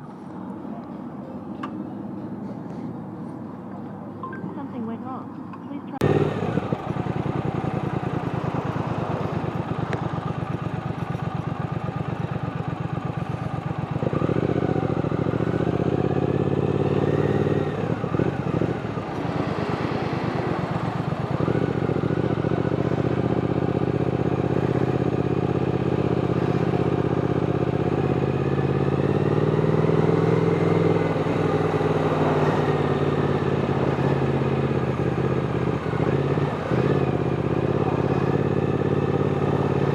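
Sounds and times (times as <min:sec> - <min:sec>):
motorcycle engine running: 0:05.9 - 0:39.9.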